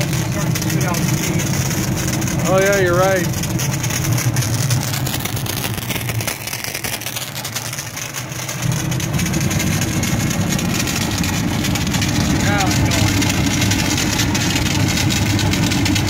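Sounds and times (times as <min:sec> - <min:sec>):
pressure washer machine hum: 0:00.0 - 0:16.0.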